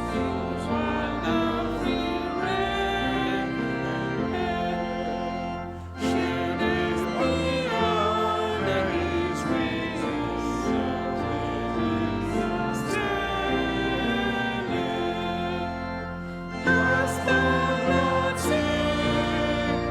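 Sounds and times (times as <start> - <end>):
instrumental accompaniment: 0.0 - 19.9
voices singing a hymn: 0.0 - 19.9.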